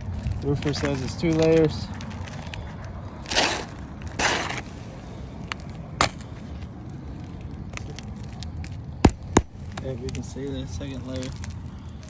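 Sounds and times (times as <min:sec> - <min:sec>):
gritty scrapes on roof shingles: 0:00.1 - 0:12.0.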